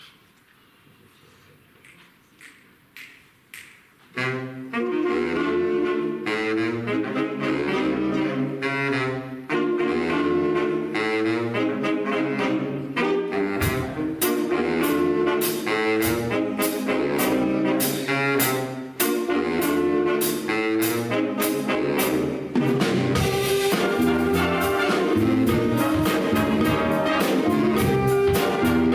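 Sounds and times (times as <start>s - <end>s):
big band jazz: 4.1s - 28.9s.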